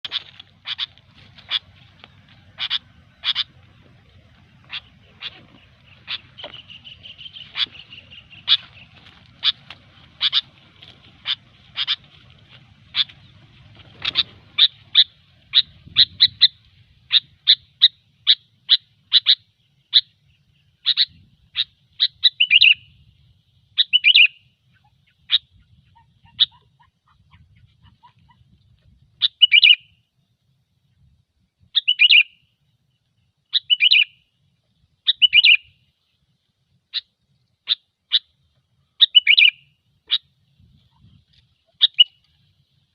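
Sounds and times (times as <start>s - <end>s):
bulbul calling: 0.0s - 23.1s, 23.7s - 28.5s, 29.2s - 30.0s, 31.7s - 32.6s, 33.4s - 34.3s, 35.0s - 35.9s, 36.9s - 42.5s.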